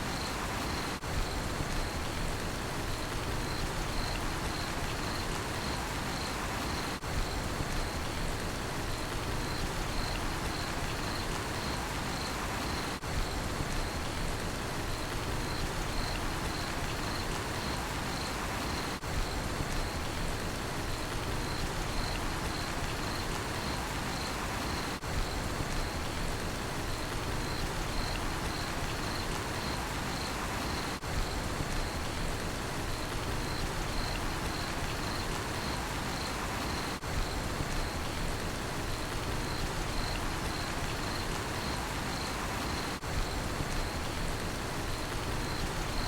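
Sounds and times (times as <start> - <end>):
cricket chirping: 0.0 - 2.2, 2.9 - 8.2, 8.9 - 14.2, 15.0 - 20.2, 21.3 - 26.2, 26.8 - 32.2, 32.9 - 38.2, 38.9 - 44.2, 44.8 - 46.0
steady rain: 0.0 - 46.0.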